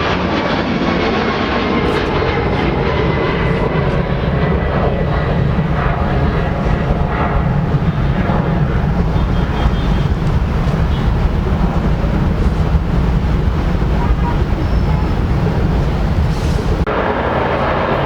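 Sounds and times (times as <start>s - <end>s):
airliner engines running: 0.0s - 18.0s.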